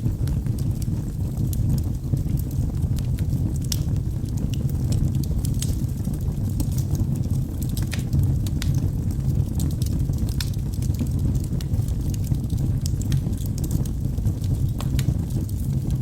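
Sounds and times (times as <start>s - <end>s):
burning logs crackling and popping: 0.0s - 16.0s
low rumble of flames: 0.0s - 16.0s.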